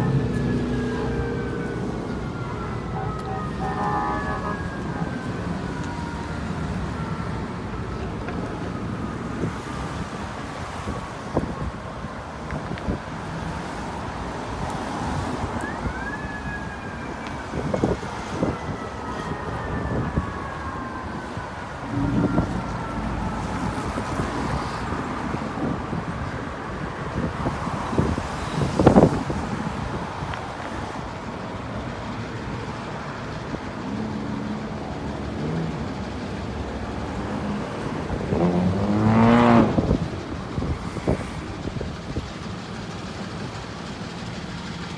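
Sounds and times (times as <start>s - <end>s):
city street traffic: 0.0s - 44.9s
distant emergency siren wailing: 0.0s - 44.9s.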